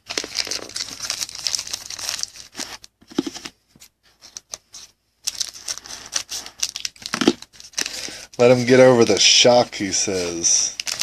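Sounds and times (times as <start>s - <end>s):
cards and packaging rustling: 0.0s - 11.0s.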